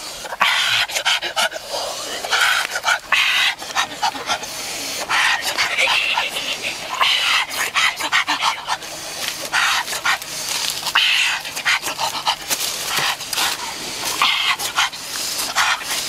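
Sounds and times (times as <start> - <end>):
person panting loudly: 0.0 - 16.0
wet chewing: 0.2 - 16.0
lip-smacking clicks: 0.3 - 16.0.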